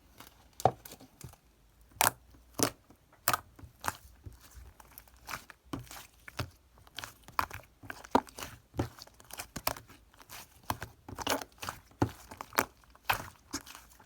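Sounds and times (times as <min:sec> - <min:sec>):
clay slime squishing and popping: 0:00.6 - 0:14.0.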